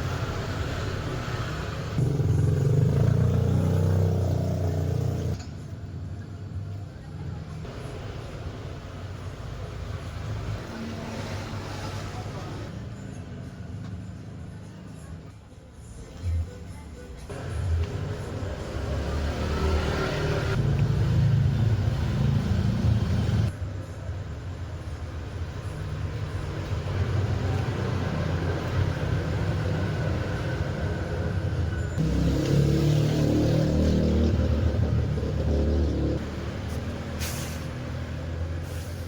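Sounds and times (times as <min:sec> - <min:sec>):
motor vehicle engines rumbling: 0:00.0 - 0:15.4, 0:16.0 - 0:39.0.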